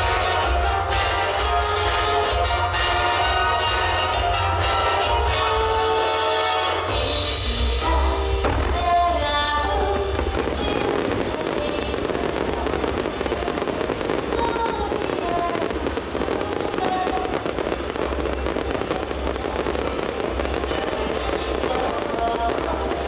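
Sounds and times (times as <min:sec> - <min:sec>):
fireworks booming: 0:00.0 - 0:23.0
fireworks crackling: 0:00.0 - 0:23.0
show music: 0:00.0 - 0:23.0.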